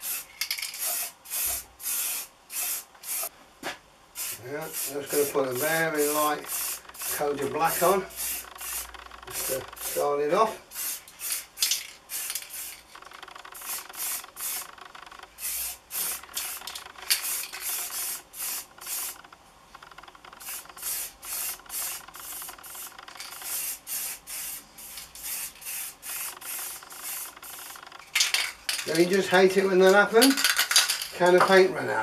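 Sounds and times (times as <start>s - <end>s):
spray paint can hissing: 0.0s - 3.3s, 4.2s - 10.1s, 10.7s - 19.2s, 20.4s - 29.1s.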